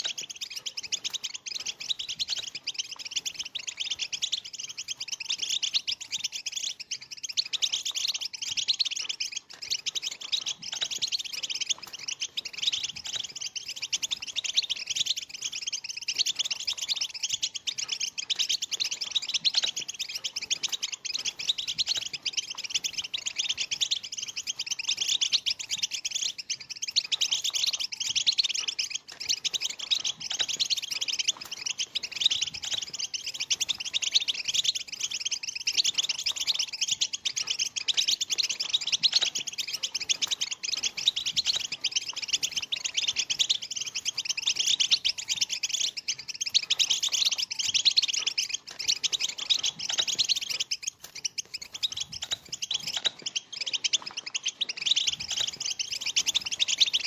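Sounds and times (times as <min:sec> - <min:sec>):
goldfinches twittering: 0:00.0 - 0:57.0.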